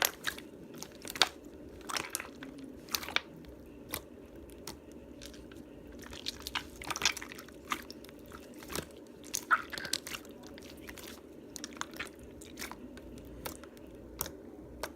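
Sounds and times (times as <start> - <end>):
slime squishing and popping: 0.0 - 14.9
steady low hum: 0.0 - 14.9.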